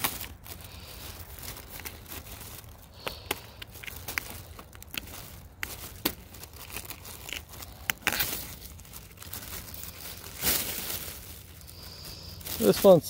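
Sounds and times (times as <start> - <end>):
paper lantern crinkling: 0.0 - 13.0.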